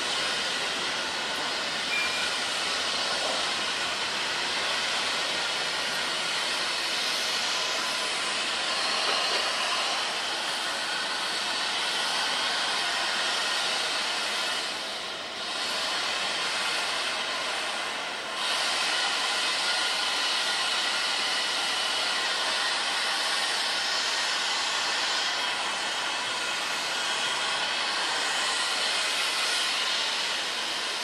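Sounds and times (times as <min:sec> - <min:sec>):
diesel locomotives hissing: 0:00.0 - 0:31.0.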